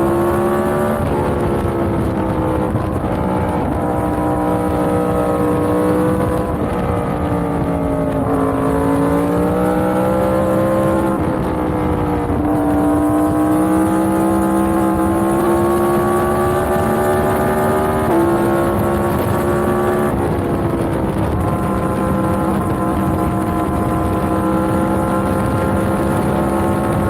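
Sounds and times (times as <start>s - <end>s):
motorcycle engine at speed: 0.0s - 27.0s.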